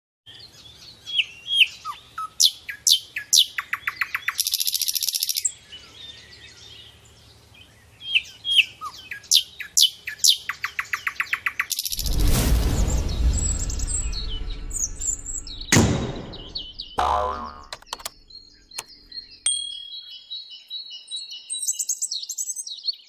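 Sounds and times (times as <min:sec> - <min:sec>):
nightingale singing: 0:00.3 - 0:12.1, 0:14.2 - 0:23.0.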